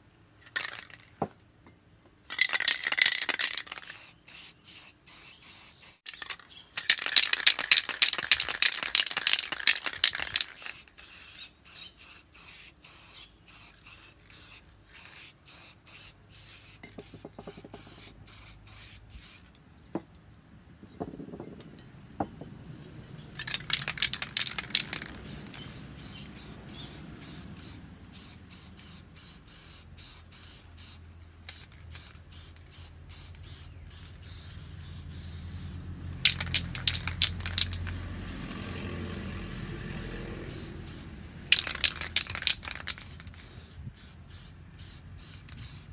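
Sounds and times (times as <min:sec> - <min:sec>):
spray paint can hissing: 0:02.3 - 0:19.6, 0:23.4 - 0:45.9.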